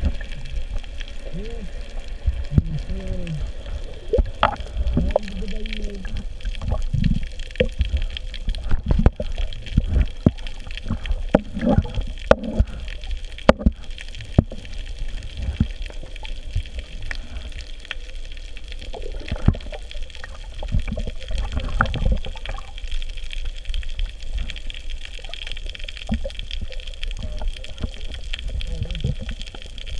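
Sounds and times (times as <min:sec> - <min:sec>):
low underwater rumble: 0:00.0 - 0:29.9
underwater regulator bubbling: 0:00.0 - 0:29.9.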